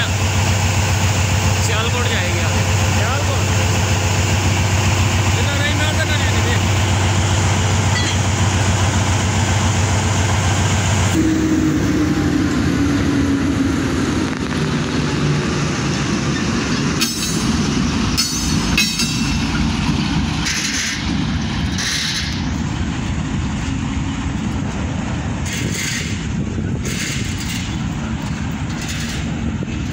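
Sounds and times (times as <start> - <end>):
diesel locomotive engine running: 0.0 - 29.9
noisy bursts from train: 0.0 - 29.9
train rumble: 0.0 - 29.9.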